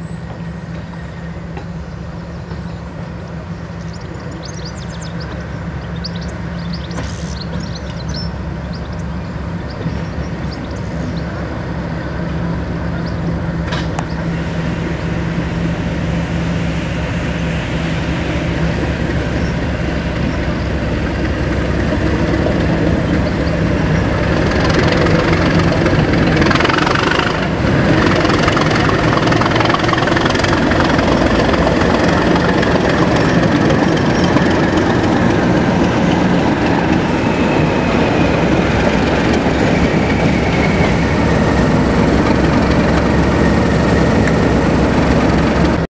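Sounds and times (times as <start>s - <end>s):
diesel locomotive engine humming: 0.0s - 45.9s.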